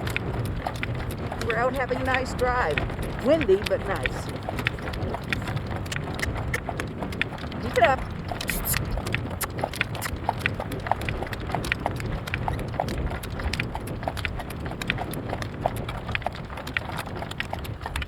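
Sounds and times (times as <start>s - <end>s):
horse hooves trotting: 0.0s - 18.0s
wind on microphone: 0.0s - 18.0s.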